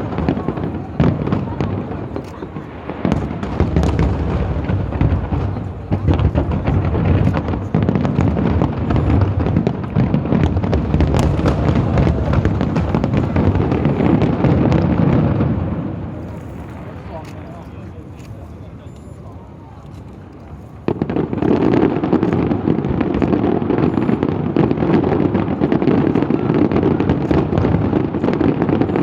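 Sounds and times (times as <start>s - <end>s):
fireworks booming: 0.0s - 29.0s
fireworks cracking and popping: 0.0s - 29.0s.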